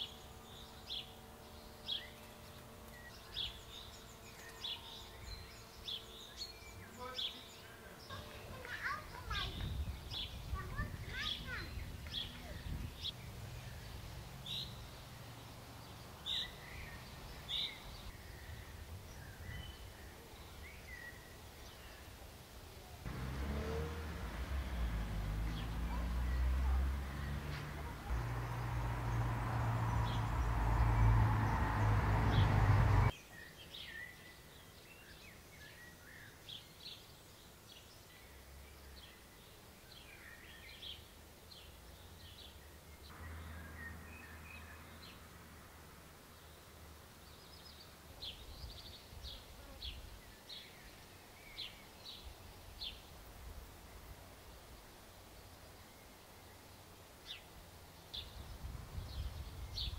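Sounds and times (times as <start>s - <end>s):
small birds chirping: 0.0s - 45.3s, 46.1s - 53.2s, 53.8s - 59.9s
outdoor background noise: 0.0s - 59.9s.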